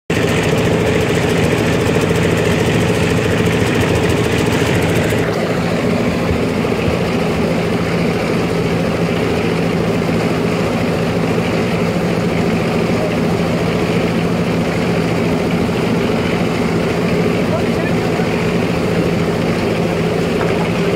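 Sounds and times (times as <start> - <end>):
excavator diesel engine running: 0.1 - 20.9.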